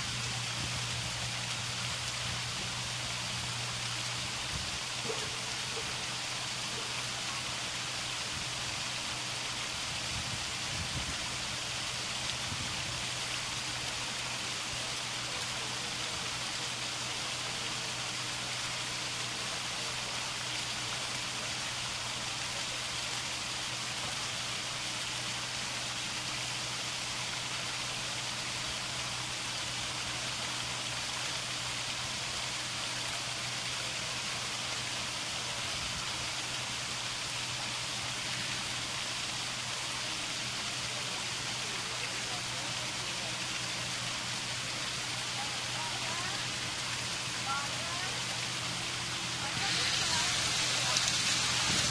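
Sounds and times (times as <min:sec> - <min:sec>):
fountain water splashing over rocks: 0:00.0 - 0:51.9.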